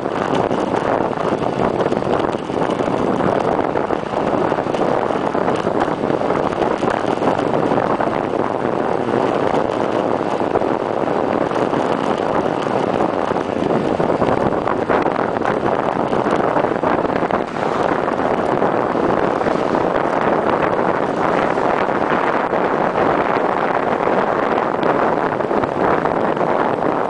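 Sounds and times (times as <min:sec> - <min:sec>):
wind rushing on microphone: 0:00.0 - 0:27.0.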